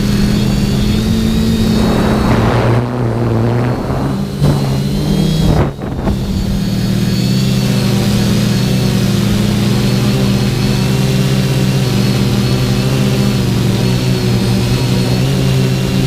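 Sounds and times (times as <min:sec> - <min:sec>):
quadcopter propellers buzzing: 0:00.0 - 0:16.0.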